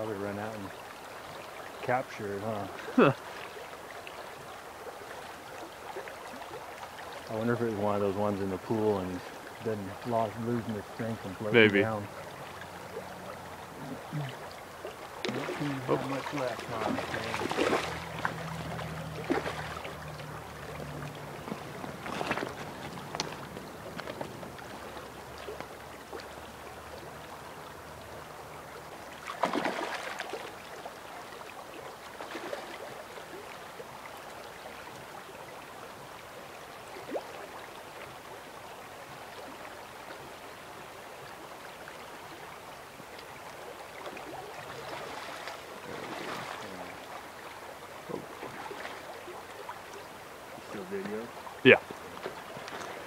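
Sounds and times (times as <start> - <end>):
creek water rushing over rocks: 0.0 - 53.0.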